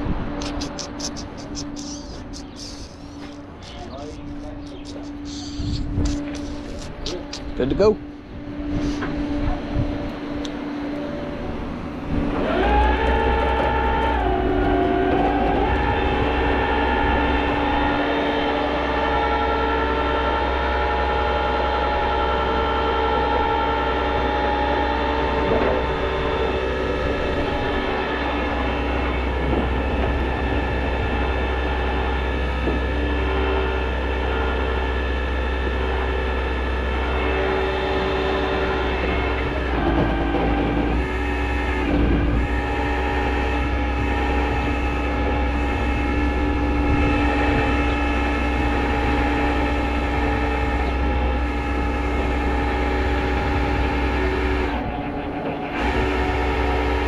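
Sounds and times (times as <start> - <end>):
truck engine rumble: 0.0 - 57.0
hydraulic winch whining: 0.4 - 57.0.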